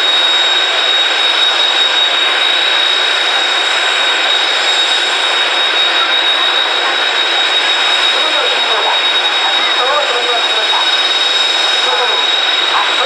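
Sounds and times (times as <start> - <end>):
jet engines running with high whine: 0.0 - 13.0.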